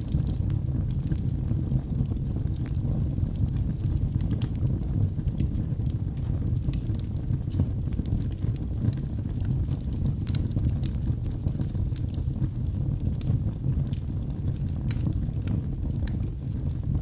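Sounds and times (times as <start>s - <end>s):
fire rumbling: 0.0s - 17.0s
wood crackling and popping: 0.0s - 17.0s.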